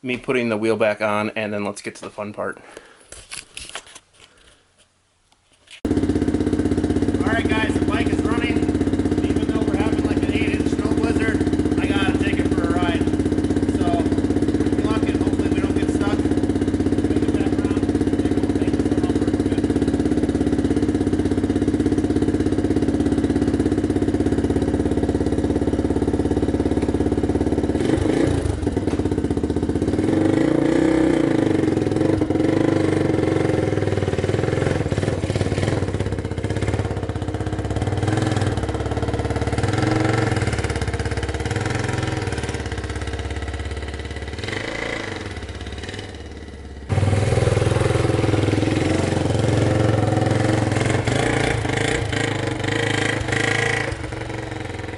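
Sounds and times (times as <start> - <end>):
motorcycle engine idling and revving: 5.8 - 54.9.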